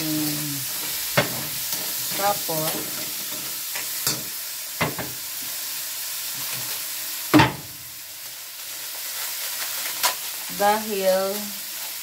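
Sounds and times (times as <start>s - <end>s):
crabs sizzling in a wok: 0.0s - 12.0s.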